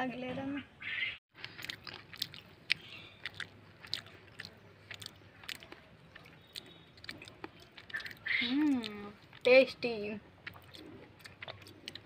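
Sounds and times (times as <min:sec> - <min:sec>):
person chewing: 0:01.3 - 0:09.5, 0:10.3 - 0:12.0.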